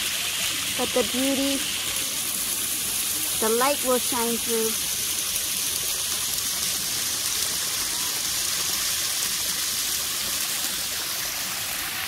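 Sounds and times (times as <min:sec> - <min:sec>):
waterfall splashing into pond: 0:00.0 - 0:12.0.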